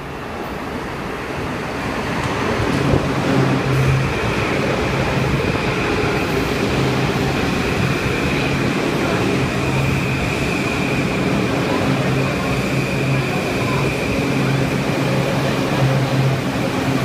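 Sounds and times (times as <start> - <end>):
train high whine: 0.0 - 17.0.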